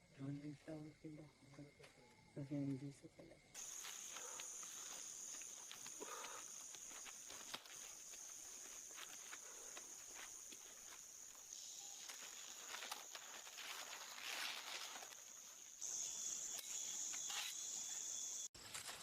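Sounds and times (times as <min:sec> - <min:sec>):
insect chorus buzzing: 0:00.0 - 0:18.6.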